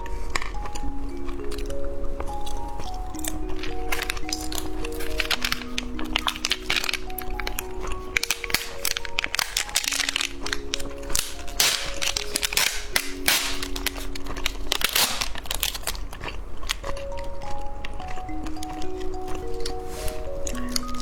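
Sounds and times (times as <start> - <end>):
background music: 0.0 - 21.0
crackling of candy snacks: 0.0 - 21.0.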